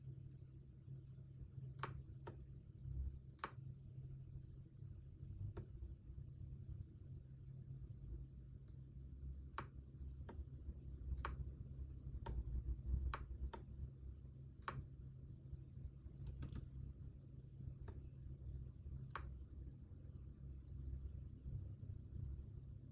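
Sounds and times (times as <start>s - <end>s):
low room hum: 0.0s - 22.9s.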